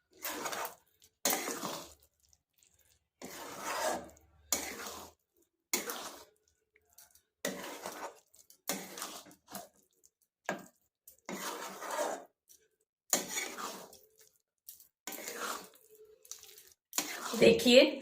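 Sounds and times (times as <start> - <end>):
spoon scraping a pan: 0.0 - 17.8.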